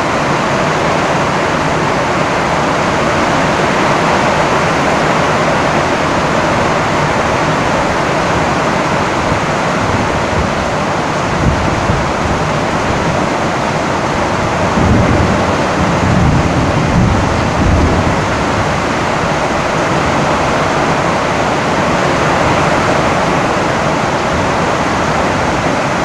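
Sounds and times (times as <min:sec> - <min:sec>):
heavy rain on a tin roof: 0:00.0 - 0:26.0.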